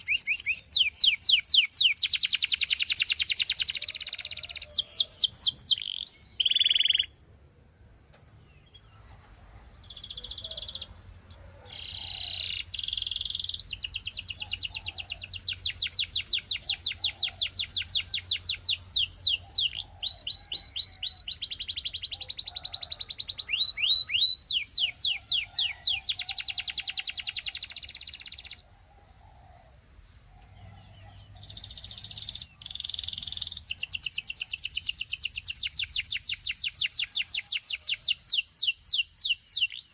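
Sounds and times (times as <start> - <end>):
canary singing trills: 0.0 - 7.2, 8.4 - 28.7, 30.2 - 39.9.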